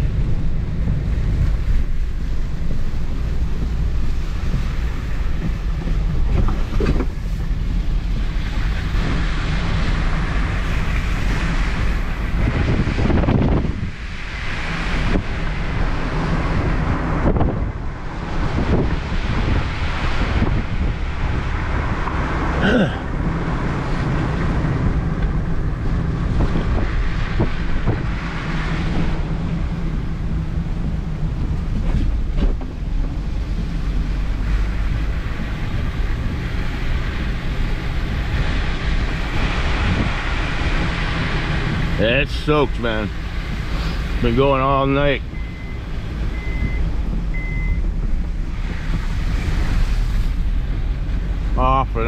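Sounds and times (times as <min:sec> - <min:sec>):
wind buffeting microphone: 0:00.0 - 0:51.6
car engine and road noise: 0:00.0 - 0:52.0
heavy rain: 0:00.0 - 0:52.0
wind gusting: 0:00.0 - 0:52.0.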